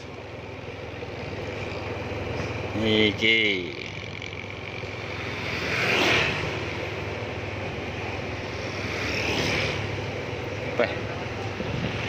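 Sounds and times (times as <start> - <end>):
motorcycle engine hum: 0.0 - 12.0
vehicles passing: 0.0 - 12.0.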